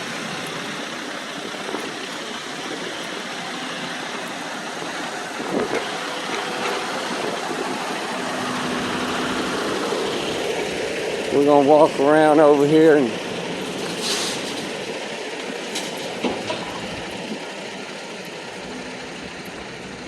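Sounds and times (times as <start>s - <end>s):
heavy diesel engines running: 0.0s - 20.0s.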